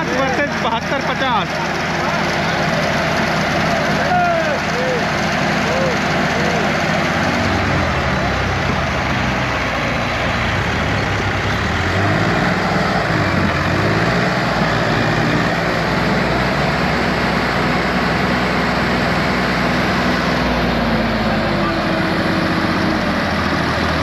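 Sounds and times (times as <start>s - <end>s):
tractor engines rumbling under load: 0.0s - 24.0s.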